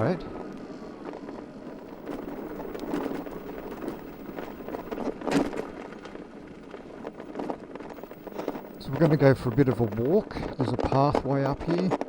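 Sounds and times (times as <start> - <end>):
electric motorcycle tyre noise: 0.0 - 10.5.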